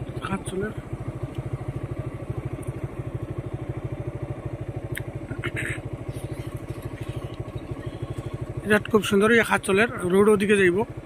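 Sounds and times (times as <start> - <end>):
engine running with rapid putter: 0.0 - 11.0.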